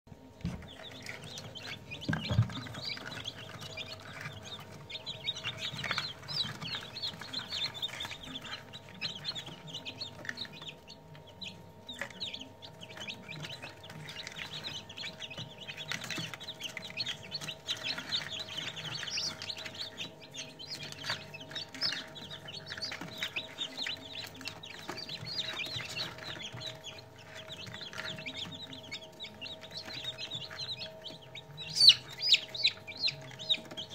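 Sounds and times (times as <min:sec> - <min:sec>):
chicks peeping: 0:00.1 - 0:33.9
incubator hum: 0:00.1 - 0:33.9.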